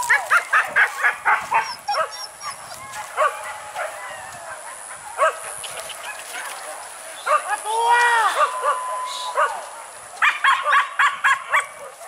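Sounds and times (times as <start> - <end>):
dogs barking: 0.0 - 7.6, 8.3 - 12.0.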